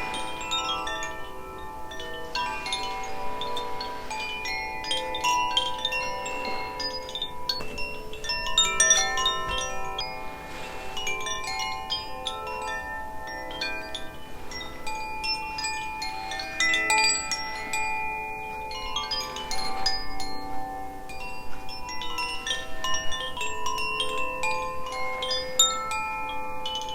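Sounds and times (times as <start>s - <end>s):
wind chimes ringing: 0.0s - 26.9s.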